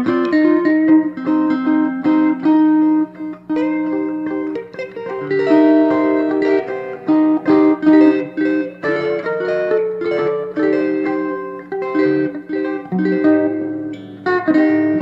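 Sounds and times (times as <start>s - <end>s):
electric guitars playing: 0.0s - 15.0s.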